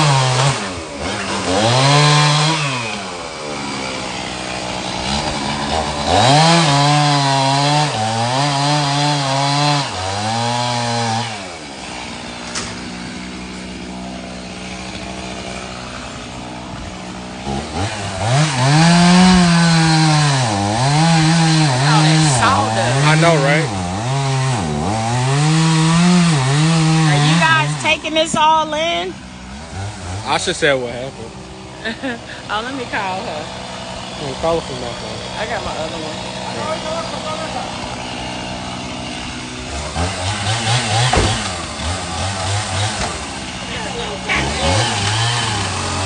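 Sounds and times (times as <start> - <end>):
chainsaw revving: 0.0 - 46.0.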